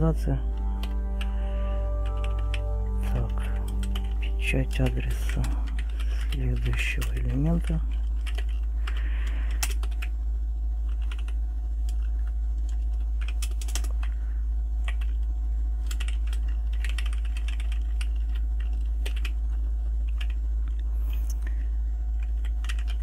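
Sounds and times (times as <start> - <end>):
steady low hum: 0.0 - 23.0
keyboard keys clicking: 0.5 - 1.4, 2.0 - 10.1, 10.9 - 14.1, 14.8 - 20.4, 22.2 - 23.0.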